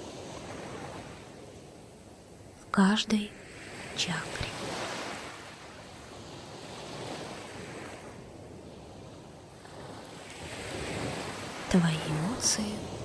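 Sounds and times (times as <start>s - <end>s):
waves washing in: 0.0s - 13.0s.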